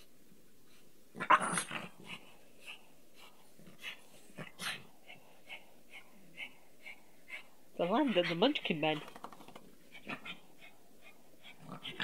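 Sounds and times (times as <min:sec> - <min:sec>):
small dog panting: 0:02.0 - 0:12.0.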